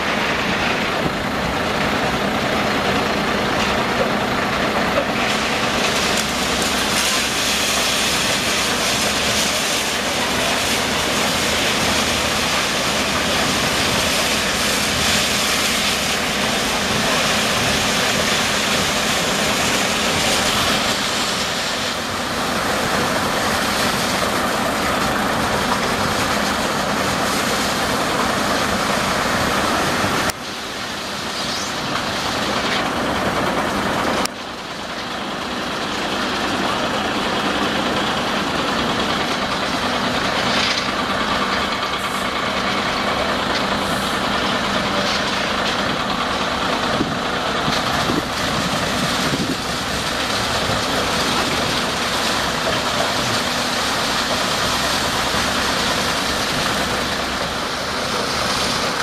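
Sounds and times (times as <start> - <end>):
diesel construction machinery running: 0.0 - 59.0.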